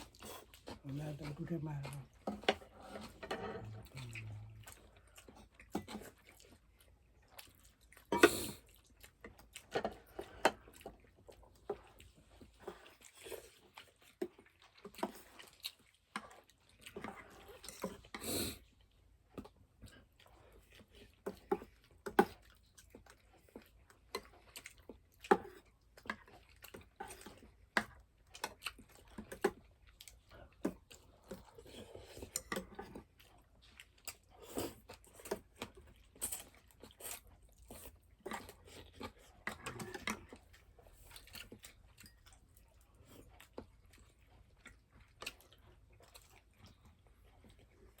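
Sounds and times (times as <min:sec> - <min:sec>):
person chewing crunchy food: 0:00.0 - 0:48.0.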